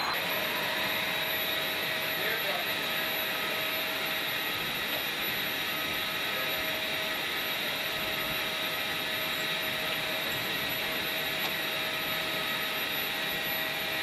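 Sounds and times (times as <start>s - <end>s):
jet turbine running: 0.0s - 14.0s.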